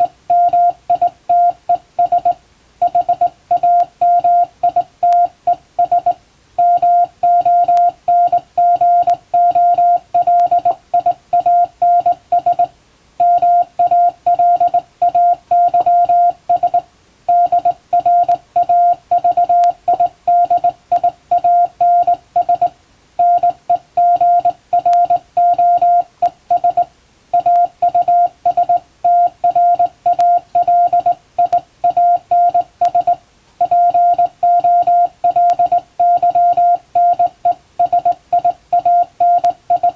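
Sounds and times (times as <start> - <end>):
morse code beeping: 0.0 - 39.9.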